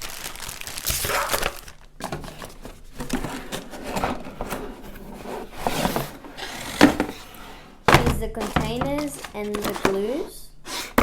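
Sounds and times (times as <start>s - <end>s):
plastic parts rustling and scraping: 0.0s - 11.0s.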